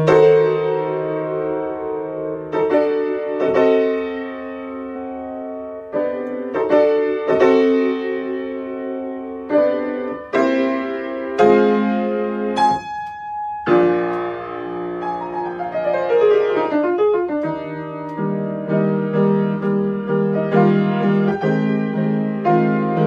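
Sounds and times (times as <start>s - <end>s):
grand piano playing chords: 0.0s - 23.0s.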